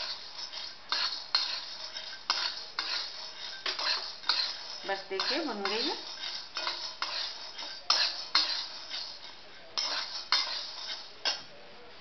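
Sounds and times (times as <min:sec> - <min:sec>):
grains rattling in a pan: 0:00.0 - 0:11.3
metal spatula scraping a pan: 0:00.0 - 0:11.5.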